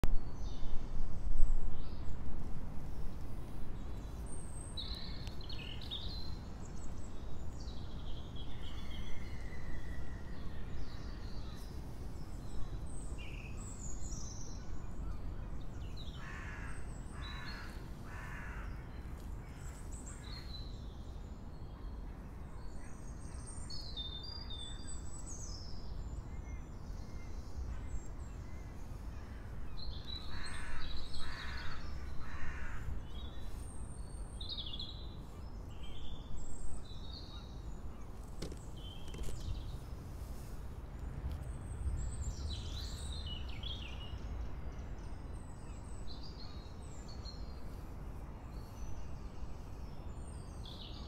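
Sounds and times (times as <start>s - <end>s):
bird chirps and song: 3.4s - 51.0s.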